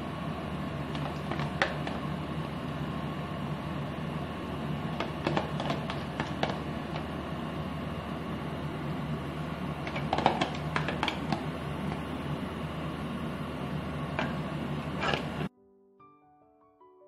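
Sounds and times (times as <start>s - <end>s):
room hum: 0.0s - 15.5s.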